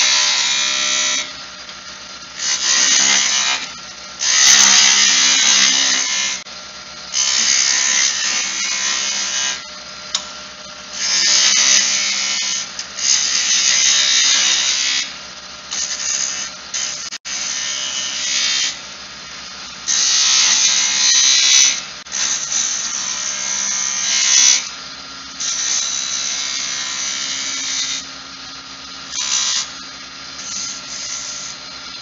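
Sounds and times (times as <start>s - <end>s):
chisel cutting spinning wood: 0.0s - 32.0s.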